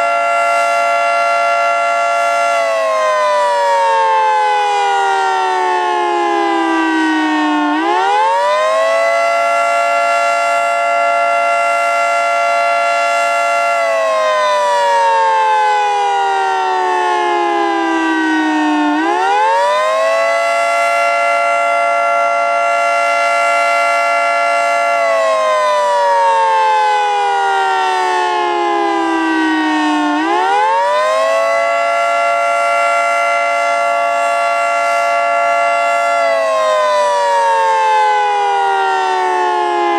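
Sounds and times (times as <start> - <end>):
warning siren rising and falling wail: 0.0 - 39.9.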